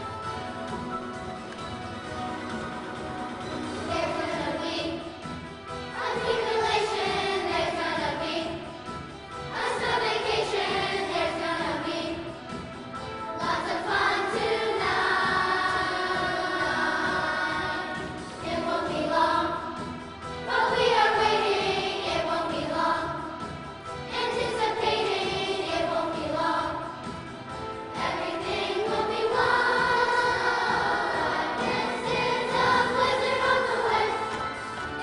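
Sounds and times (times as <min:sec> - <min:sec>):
children's choir singing: 0:01.5 - 0:35.0.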